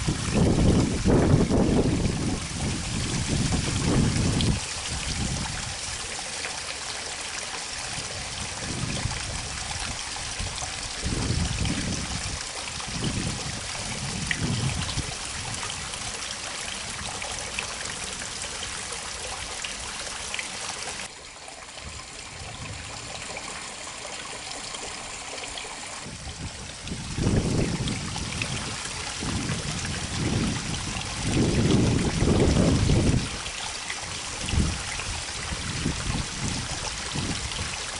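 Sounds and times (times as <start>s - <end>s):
wind buffeting microphone: 0.0s - 6.0s, 7.8s - 19.9s, 21.8s - 23.4s, 26.0s - 37.9s
water trickling into river: 0.0s - 37.9s.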